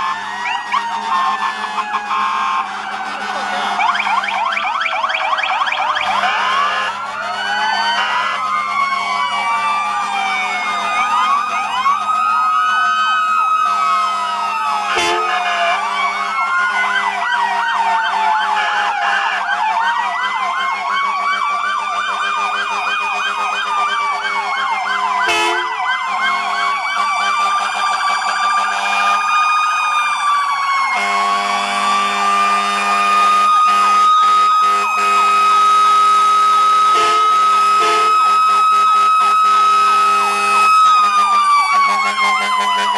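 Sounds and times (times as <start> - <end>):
emergency vehicle sirens: 0.0 - 42.9.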